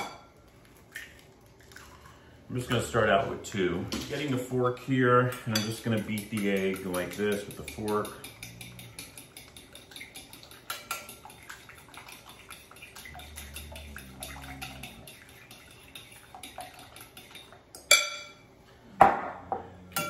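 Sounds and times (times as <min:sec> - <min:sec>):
fork beating eggs in a bowl: 0:00.9 - 0:18.1.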